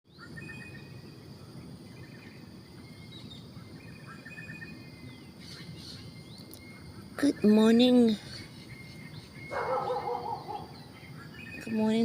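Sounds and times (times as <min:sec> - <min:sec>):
faint high insect drone: 0:00.1 - 0:12.0
small birds chirping: 0:00.1 - 0:12.0.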